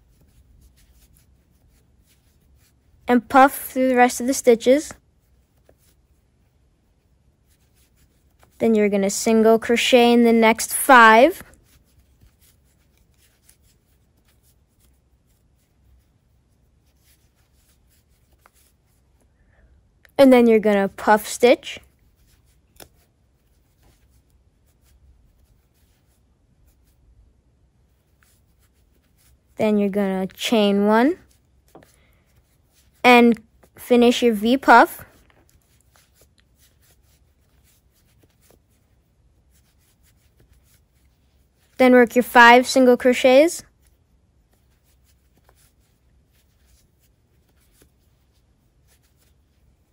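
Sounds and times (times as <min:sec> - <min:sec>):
crochet hook working yarn: 0:00.0 - 0:06.2, 0:06.9 - 0:08.7, 0:09.3 - 0:19.1, 0:20.3 - 0:27.0, 0:27.8 - 0:43.9, 0:44.5 - 0:49.9.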